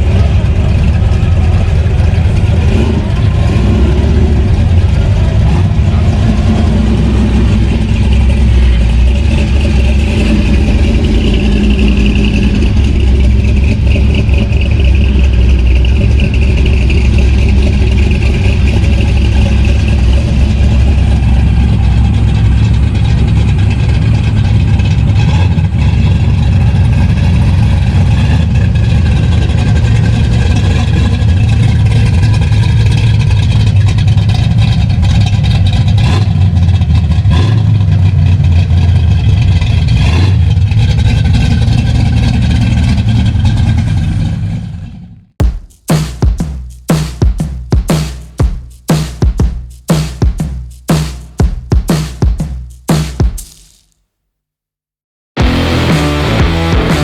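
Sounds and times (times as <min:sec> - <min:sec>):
car engine rumbling: 0:00.0 - 0:52.9.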